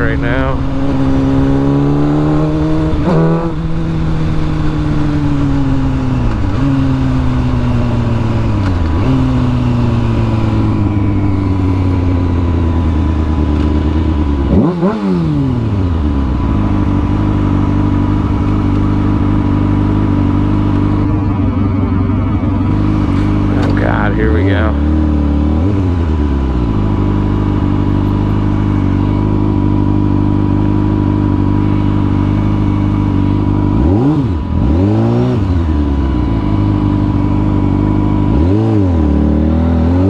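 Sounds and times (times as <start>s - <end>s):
motorcycle engine slowing and revving: 0.0s - 40.0s.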